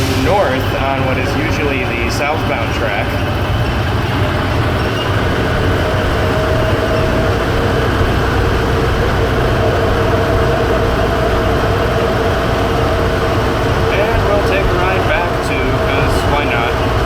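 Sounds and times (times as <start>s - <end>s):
people-mover train running: 0.0s - 17.0s.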